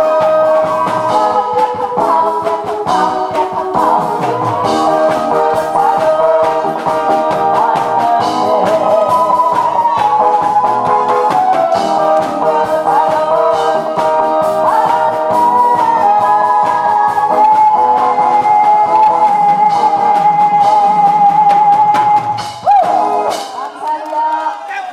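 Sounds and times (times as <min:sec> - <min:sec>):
backing track with guitar and beat: 0:00.0 - 0:23.8
woman singing into microphone: 0:00.0 - 0:24.7.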